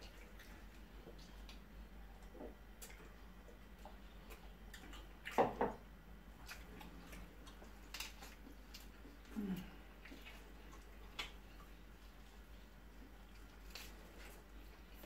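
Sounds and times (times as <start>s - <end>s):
people chewing and lip smacking: 0.0s - 15.0s.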